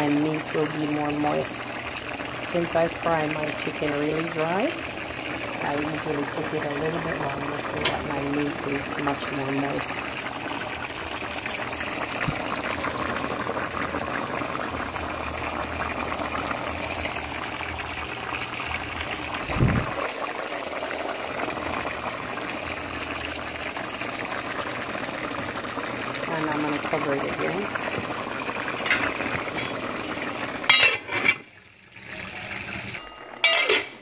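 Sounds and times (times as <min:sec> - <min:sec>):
stew bubbling in a pot: 0:00.0 - 0:33.7.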